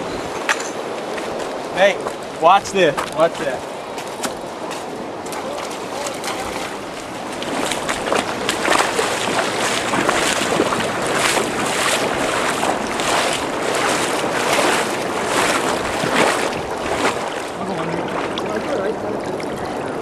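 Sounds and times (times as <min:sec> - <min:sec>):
people wading through water: 0:00.0 - 0:20.0
rushing water: 0:00.0 - 0:20.0.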